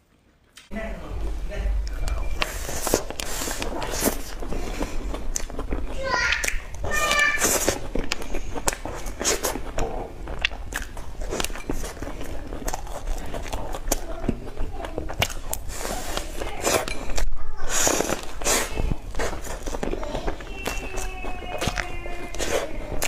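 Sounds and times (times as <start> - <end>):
wet chewing: 0.0 - 23.0
mouth clicks and smacks: 1.7 - 23.0
biting into pastry: 1.9 - 23.0.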